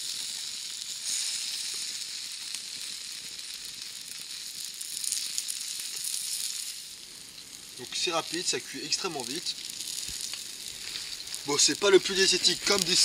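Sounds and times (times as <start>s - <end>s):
cheese sizzling in a frying pan: 0.0s - 13.0s.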